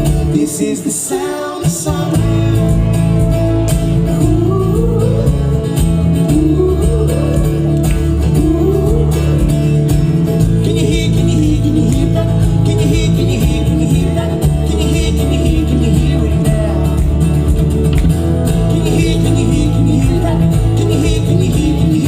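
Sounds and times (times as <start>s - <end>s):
bass: 0.0s - 1.0s, 1.6s - 22.0s
drum beat: 2.2s - 22.0s
melody with sliding notes: 2.2s - 22.0s.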